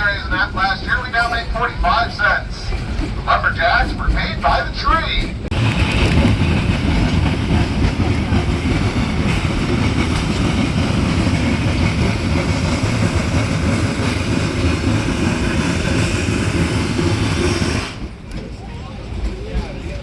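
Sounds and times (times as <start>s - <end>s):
train rumbling and rattling: 0.0s - 20.0s.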